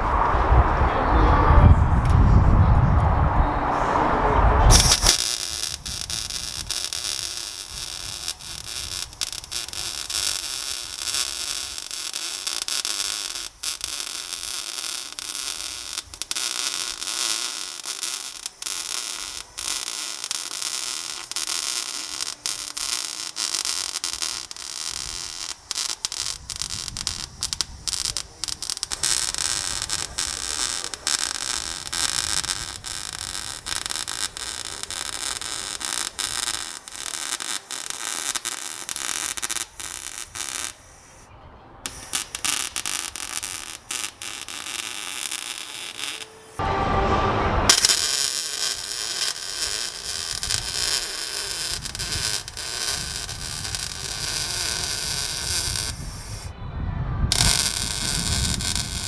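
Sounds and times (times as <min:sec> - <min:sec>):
welding crackling hiss: 0:04.7 - 0:41.3, 0:41.9 - 0:46.6, 0:47.7 - 0:56.5, 0:57.3 - 0:59.0.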